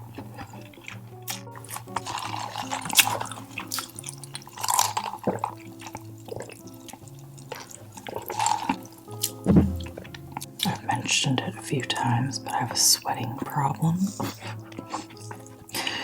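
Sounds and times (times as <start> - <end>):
wet chewing and crunching: 0.0 - 11.1, 14.2 - 16.0
quiet background music: 0.0 - 16.0.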